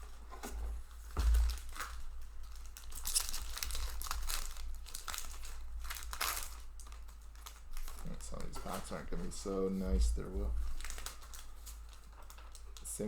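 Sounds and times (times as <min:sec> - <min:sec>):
foil wrapper crinkling and tearing: 0:00.9 - 0:13.0.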